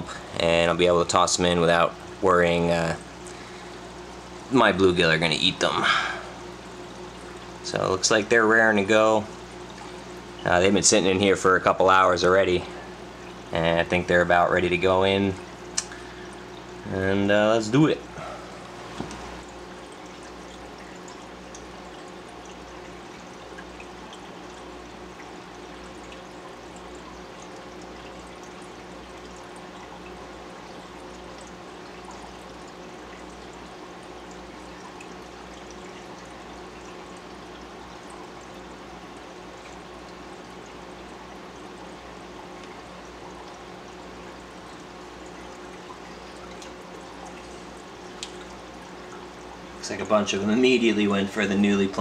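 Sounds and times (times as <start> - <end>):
bubbles ticking: 0.0 - 52.0
trickle of running water: 0.0 - 52.0.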